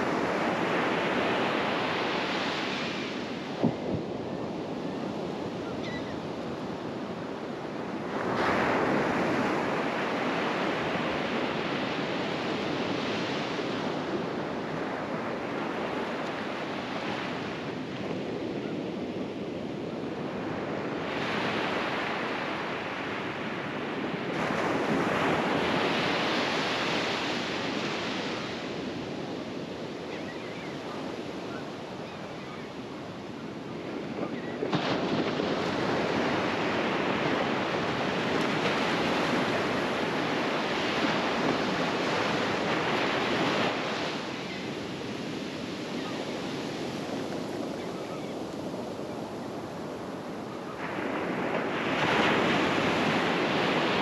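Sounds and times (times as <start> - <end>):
gentle ocean waves breaking: 0.0 - 54.0.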